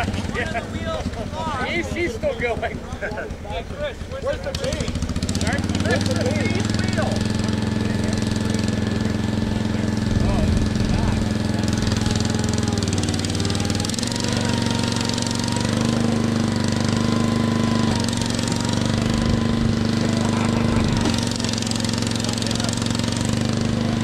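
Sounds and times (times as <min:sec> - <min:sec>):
small tractor engine running under load: 0:00.0 - 0:24.0.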